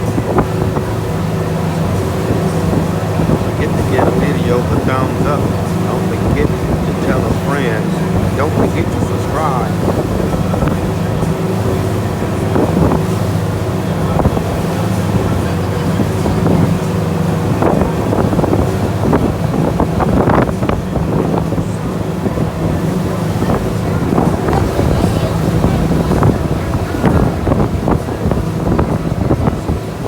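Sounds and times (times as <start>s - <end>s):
boat engine running: 0.0s - 30.0s
water splashing: 0.0s - 30.0s
wind buffeting microphone: 0.0s - 30.0s.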